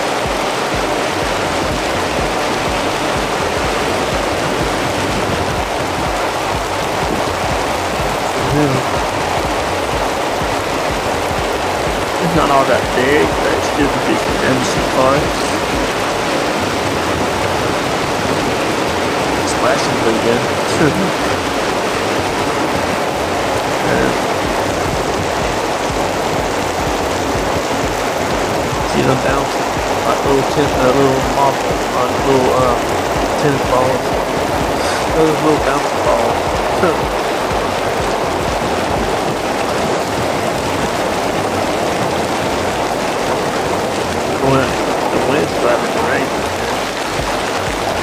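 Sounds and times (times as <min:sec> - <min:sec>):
heavy rain and hail: 0:00.0 - 0:48.0.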